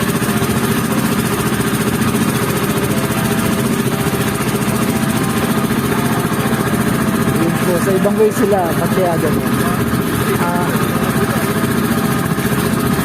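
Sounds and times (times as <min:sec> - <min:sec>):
boat engine puttering: 0:00.0 - 0:13.0.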